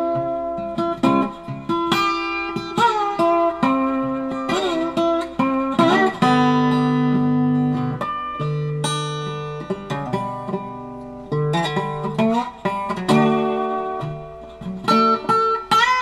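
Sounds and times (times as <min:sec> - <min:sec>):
plucked guitar instrumental: 0:00.0 - 0:16.0.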